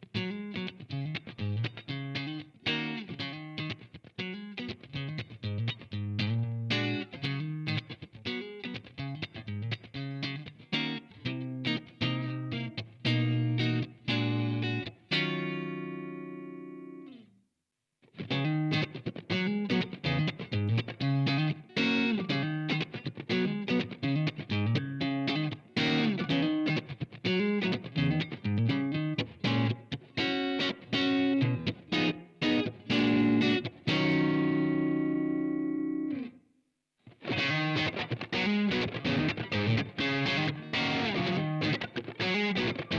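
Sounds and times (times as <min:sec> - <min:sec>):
electric guitar chords: 0:00.0 - 0:17.3, 0:18.1 - 0:36.4, 0:37.1 - 0:42.9.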